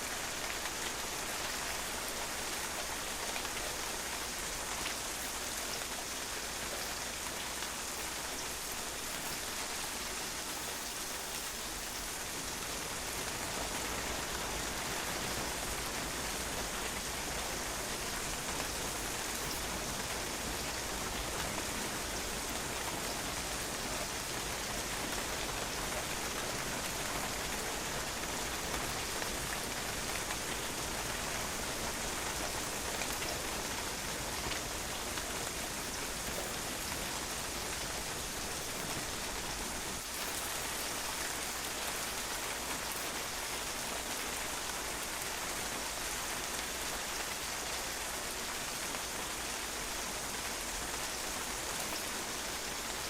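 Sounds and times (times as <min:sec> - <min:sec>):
rain on a patio: 0:00.0 - 0:53.0.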